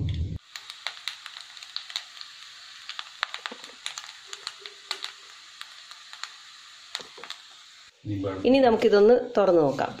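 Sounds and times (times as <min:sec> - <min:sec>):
food sizzling in oil: 0:00.3 - 0:10.0.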